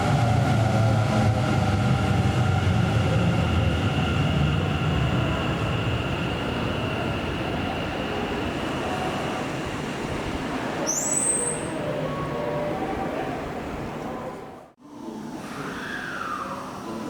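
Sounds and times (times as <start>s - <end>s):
train high whine: 0.0s - 13.8s
electric train rumbling: 0.0s - 14.7s.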